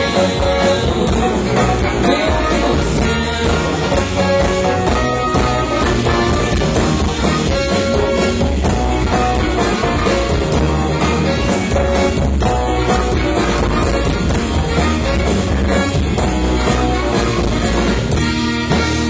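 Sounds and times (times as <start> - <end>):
loud band music: 0.0 - 19.0.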